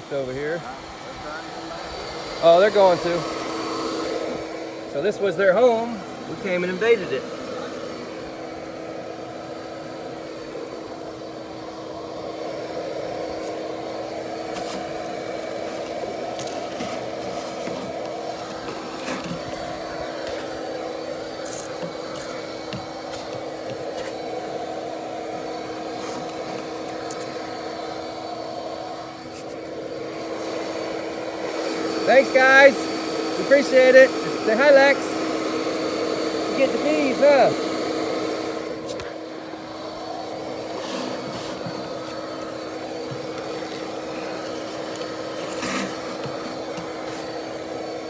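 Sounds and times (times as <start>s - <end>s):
vacuum humming: 0.0s - 48.0s.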